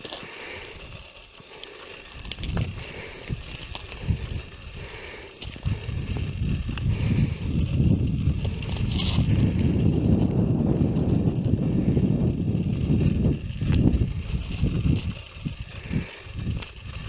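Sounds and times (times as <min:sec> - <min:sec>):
wind buffeting microphone: 0:02.0 - 0:17.0.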